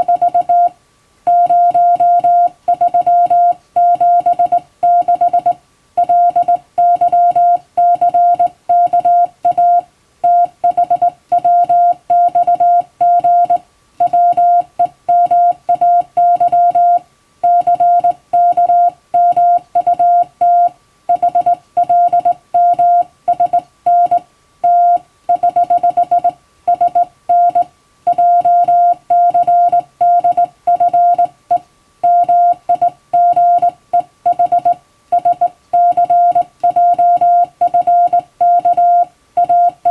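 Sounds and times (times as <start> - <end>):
morse code beeps: 0.0 - 0.7, 1.3 - 39.9.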